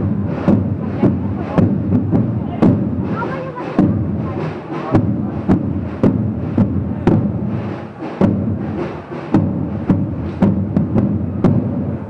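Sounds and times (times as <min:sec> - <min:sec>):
parade drums beating march rhythm: 0:00.0 - 0:12.0.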